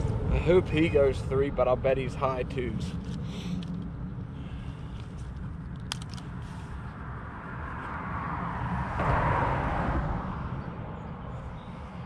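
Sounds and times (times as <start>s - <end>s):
low outdoor rumble: 0.0s - 12.0s
vehicle tyre noise passing: 0.0s - 12.0s.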